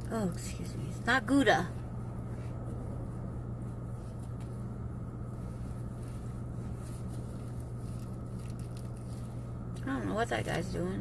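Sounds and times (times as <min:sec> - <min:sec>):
car engine hum inside cabin: 0:00.0 - 0:11.0.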